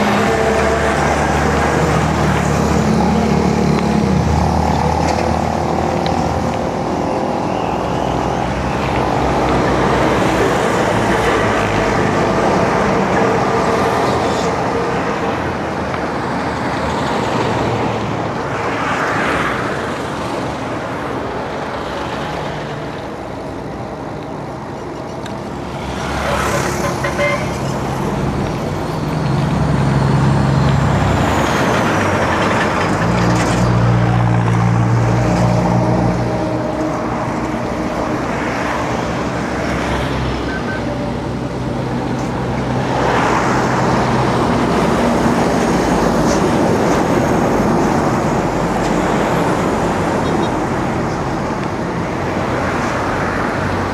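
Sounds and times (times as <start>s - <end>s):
vehicles passing: 0.0s - 53.9s.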